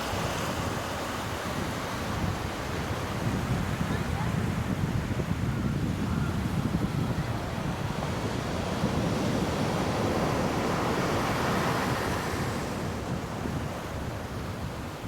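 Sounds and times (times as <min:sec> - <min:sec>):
surf washing up a beach: 0:00.0 - 0:15.0
wind buffeting microphone: 0:00.0 - 0:15.0.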